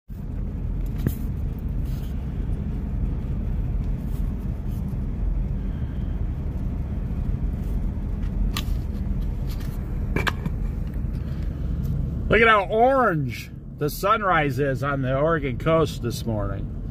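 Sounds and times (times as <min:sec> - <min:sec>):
car driving cabin rumble: 0:00.1 - 0:16.9.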